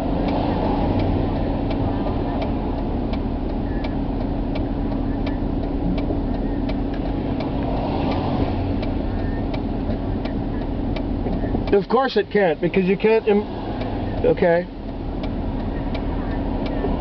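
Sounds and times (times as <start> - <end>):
car engine hum in cabin: 0.0 - 17.0
turn signal clicking: 0.0 - 17.0.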